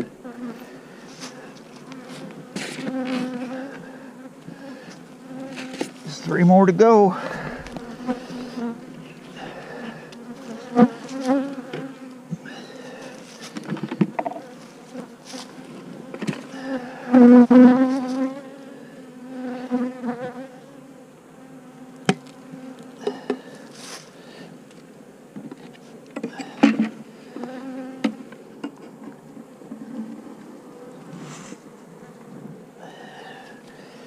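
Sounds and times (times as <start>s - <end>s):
honey bees buzzing: 0.0s - 25.4s, 26.2s - 34.0s.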